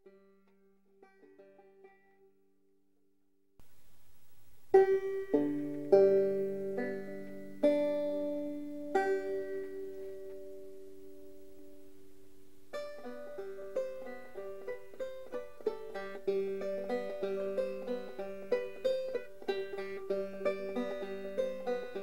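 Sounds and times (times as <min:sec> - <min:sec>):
plucked string instrument music: 0:00.0 - 0:02.4, 0:04.7 - 0:22.0.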